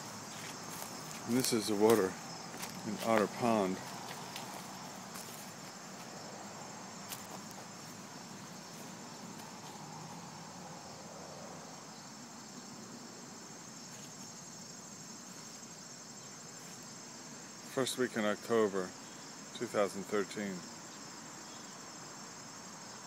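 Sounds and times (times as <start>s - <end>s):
insects chirring: 0.0s - 23.0s
outdoor hiss: 0.0s - 23.0s.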